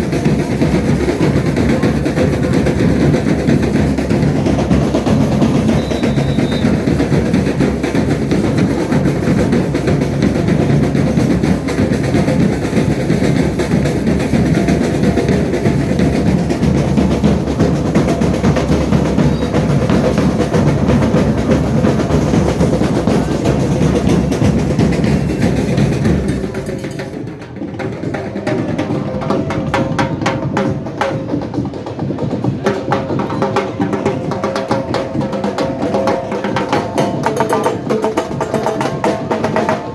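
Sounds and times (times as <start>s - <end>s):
snare and bass drums: 0.0s - 39.9s.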